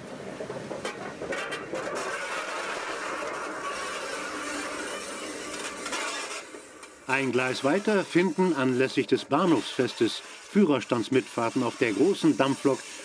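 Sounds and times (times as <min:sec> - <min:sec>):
steam locomotive hissing: 0:01.8 - 0:13.0.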